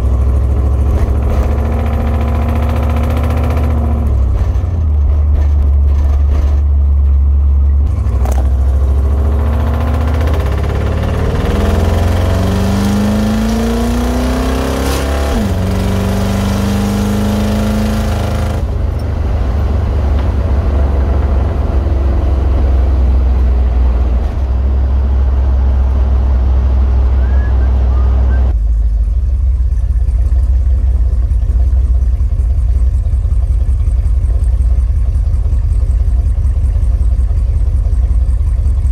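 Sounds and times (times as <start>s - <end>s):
low rumble: 0.0s - 14.3s, 18.4s - 38.9s
car engine accelerating: 0.0s - 38.9s.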